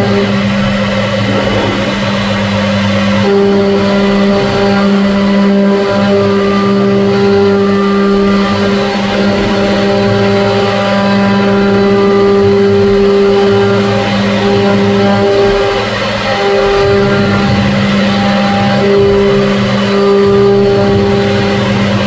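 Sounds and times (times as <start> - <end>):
machine motor whine: 0.0 - 22.0.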